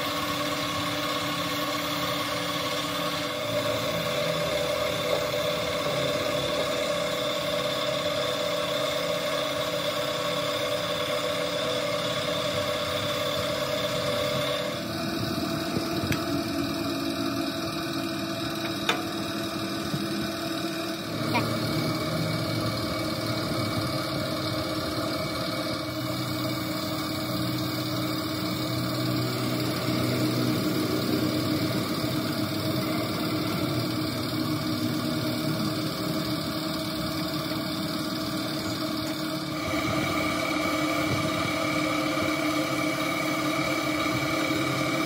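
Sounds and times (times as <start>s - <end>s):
engine running steadily: 0.0s - 45.0s.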